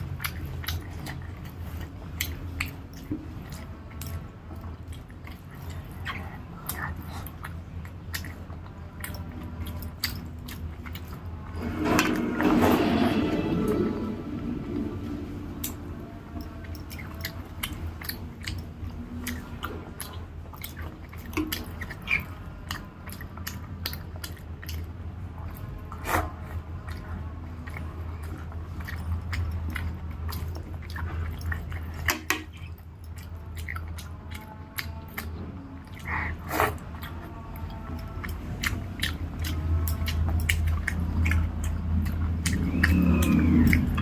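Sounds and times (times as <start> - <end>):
person chewing food: 0.0 - 44.0
steady low hum: 0.0 - 44.0.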